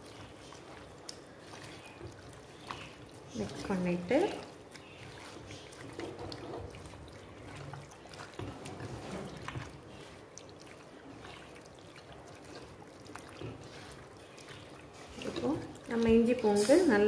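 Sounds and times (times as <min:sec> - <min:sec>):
hands squelching raw chicken: 0:00.0 - 0:17.0.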